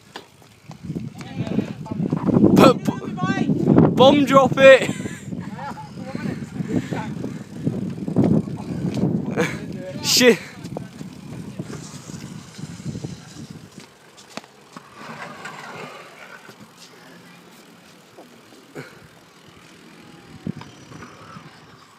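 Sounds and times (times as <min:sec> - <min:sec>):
wheels rolling over concrete: 0:00.0 - 0:21.9.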